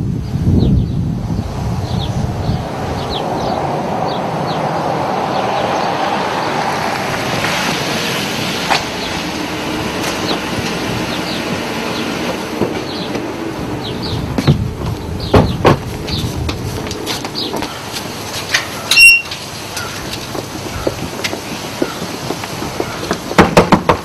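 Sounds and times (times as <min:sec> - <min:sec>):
vehicle rumble: 0:00.0 - 0:24.0.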